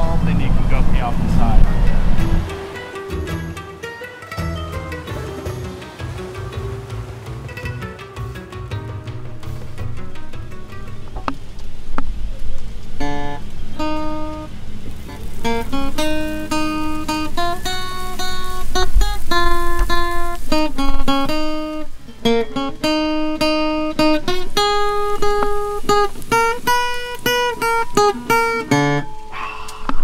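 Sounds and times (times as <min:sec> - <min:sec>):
acoustic guitar fingerstyle: 0:01.7 - 0:30.0.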